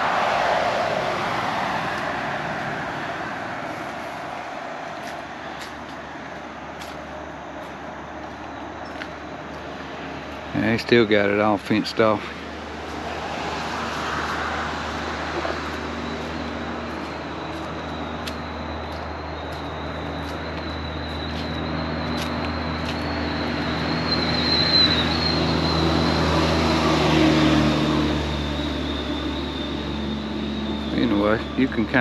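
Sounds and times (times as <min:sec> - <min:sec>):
steady traffic rushing: 0:00.0 - 0:32.0
vehicle engine passing: 0:00.0 - 0:32.0.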